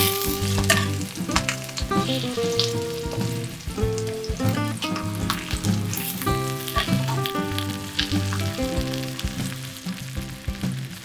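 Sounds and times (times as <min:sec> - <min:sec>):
background music: 0:00.0 - 0:11.0
crackling pops: 0:00.0 - 0:11.0
food sizzling in a pan: 0:00.0 - 0:11.0.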